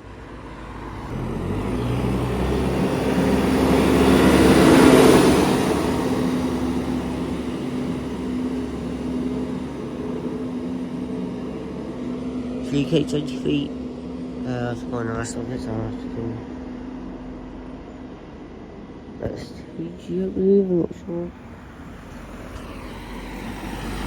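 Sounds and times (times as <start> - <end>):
diesel bus driving past: 0.0 - 24.0.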